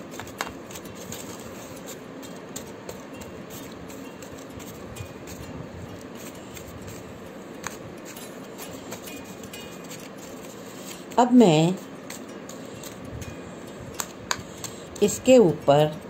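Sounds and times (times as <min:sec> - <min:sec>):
hands pressing bread dough: 0:00.0 - 0:11.2, 0:13.9 - 0:16.0
aluminium foil crinkling: 0:00.0 - 0:16.0
steady background hiss: 0:00.0 - 0:16.0.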